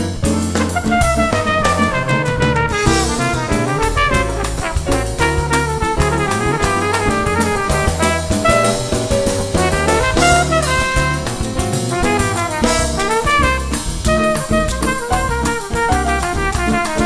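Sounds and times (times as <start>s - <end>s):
bass: 0.0s - 17.0s
drum kit: 0.0s - 17.0s
trumpet melody: 0.4s - 17.0s.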